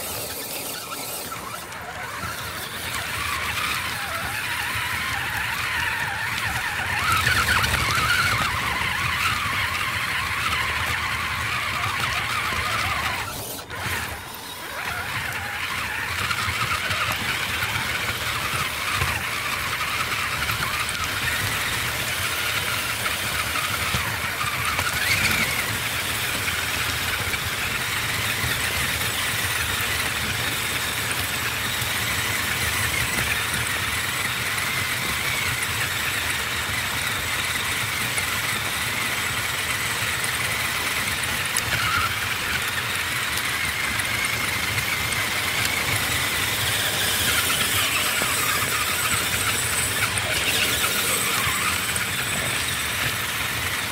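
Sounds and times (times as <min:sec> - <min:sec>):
rc car motor whining: 0:00.0 - 0:53.9.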